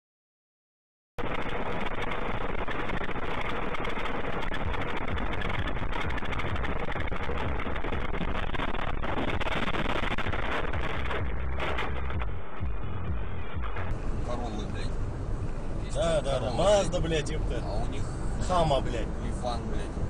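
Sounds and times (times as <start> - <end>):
car driving on highway: 1.2 - 20.0.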